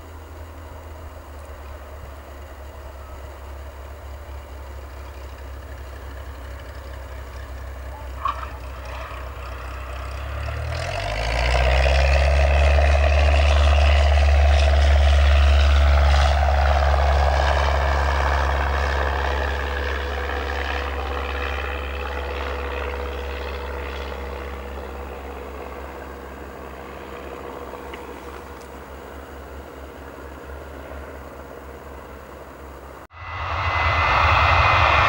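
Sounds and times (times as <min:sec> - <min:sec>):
propeller plane engine: 0:00.0 - 0:35.0.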